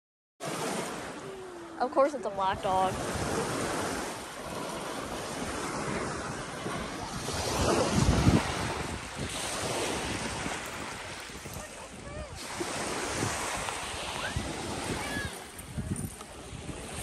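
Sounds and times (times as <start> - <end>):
waves washing onto shore: 0.4 - 17.0
wind on microphone: 1.1 - 17.0.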